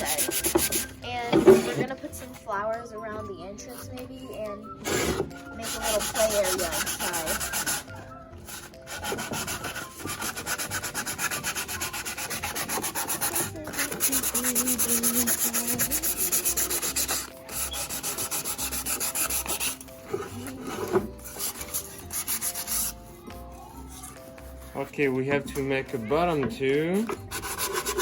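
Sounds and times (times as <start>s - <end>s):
sandpaper scraping on wood: 0.0s - 1.0s, 4.9s - 7.9s, 8.5s - 28.0s.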